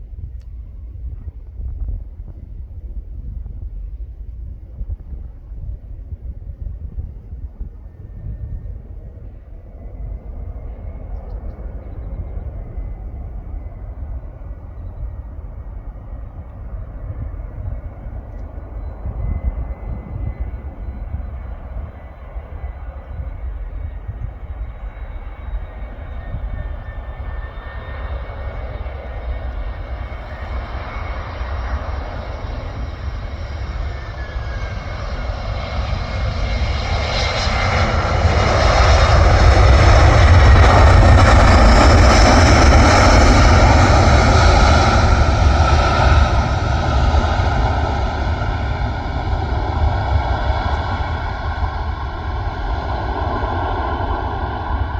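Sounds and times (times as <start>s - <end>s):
airplane engines passing: 0.0s - 54.9s.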